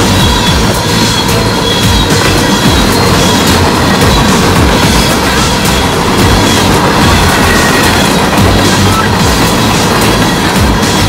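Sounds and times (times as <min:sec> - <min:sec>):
freight train rumbling past: 0:00.0 - 0:11.0
wheels clacking over rail joints: 0:00.0 - 0:11.0.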